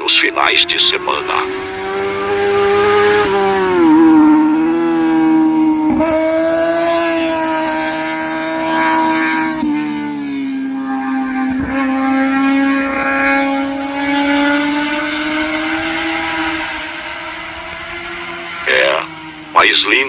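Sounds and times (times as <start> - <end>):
motorcycle engine screaming at high revs: 0.4 - 19.5.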